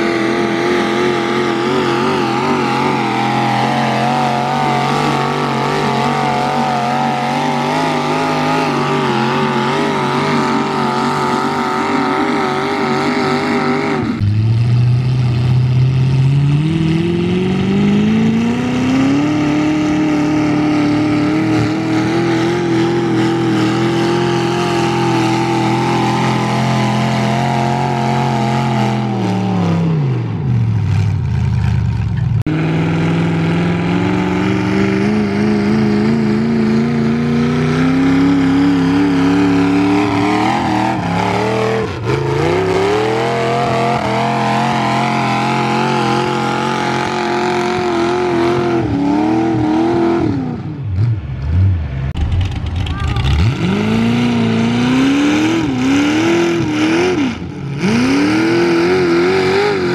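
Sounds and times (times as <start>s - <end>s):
tractor engine at high revs: 0.0s - 59.9s.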